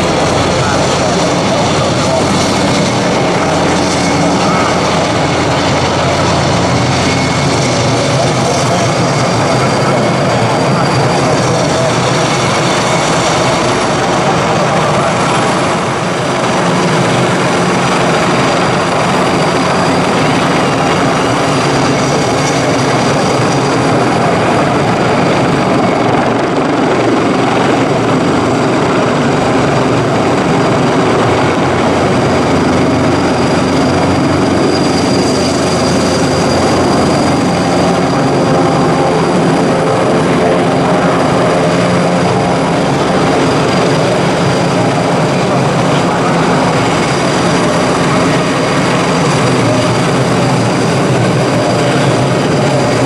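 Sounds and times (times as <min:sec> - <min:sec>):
helicopter rotors droning: 0:00.0 - 0:53.0
high turbine whine: 0:00.0 - 0:53.0.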